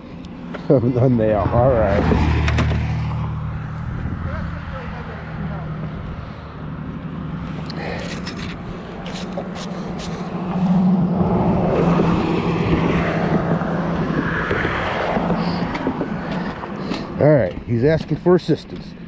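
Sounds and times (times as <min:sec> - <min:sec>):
highway traffic passing: 0:00.0 - 0:19.0
vehicle drone: 0:00.0 - 0:19.0.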